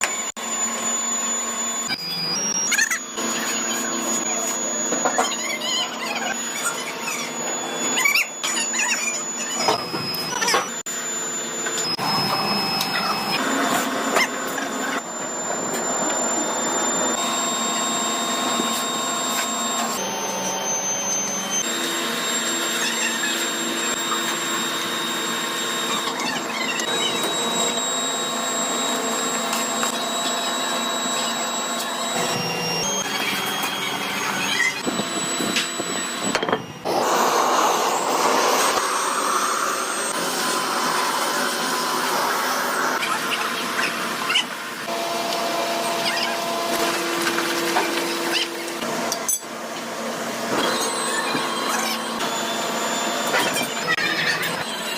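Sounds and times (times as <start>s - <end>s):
factory machinery whining: 0.0s - 54.9s.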